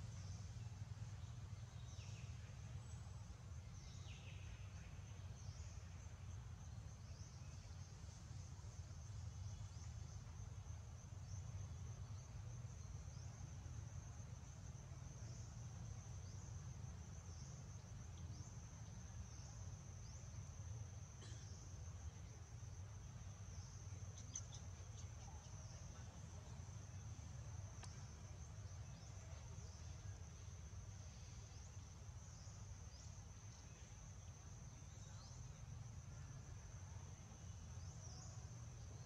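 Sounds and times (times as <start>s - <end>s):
insects buzzing: 0.0s - 39.0s.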